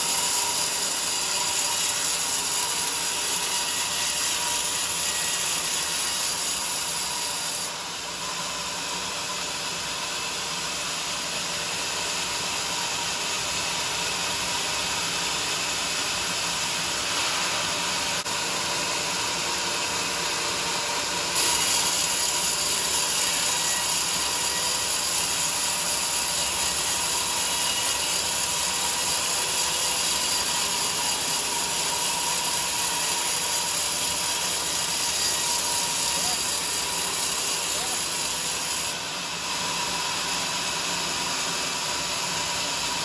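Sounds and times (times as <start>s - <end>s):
sawmill saw cutting log: 0.0s - 43.0s.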